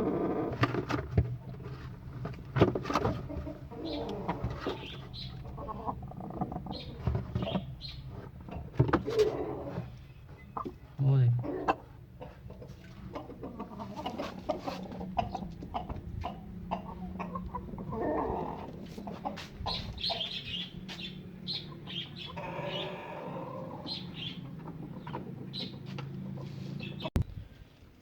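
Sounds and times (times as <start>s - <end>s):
chickens clucking: 0.0s - 27.2s.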